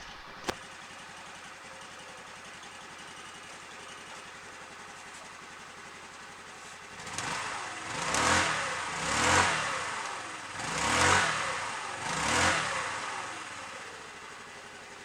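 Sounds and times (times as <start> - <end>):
scooter engine revving: 0.0 - 15.0.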